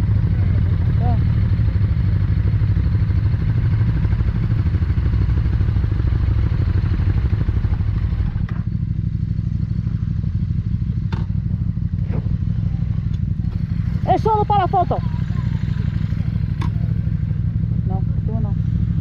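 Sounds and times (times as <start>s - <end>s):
motorcycle engine low throb: 0.0s - 19.0s.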